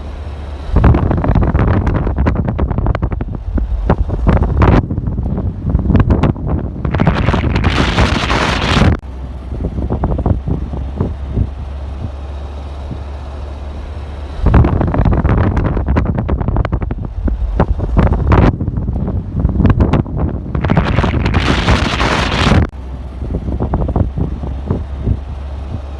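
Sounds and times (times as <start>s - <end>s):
wind buffeting microphone: 0.6s - 13.2s, 14.4s - 25.9s.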